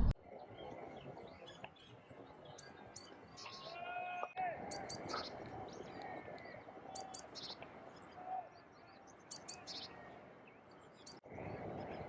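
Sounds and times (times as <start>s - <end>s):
faint outdoor background noise: 0.0s - 12.0s
songbird singing: 0.3s - 12.0s.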